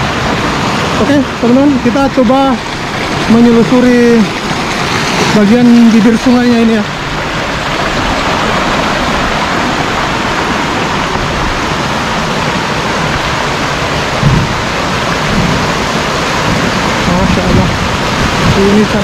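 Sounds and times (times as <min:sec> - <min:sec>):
stream rushing over stones: 0:00.0 - 0:19.0.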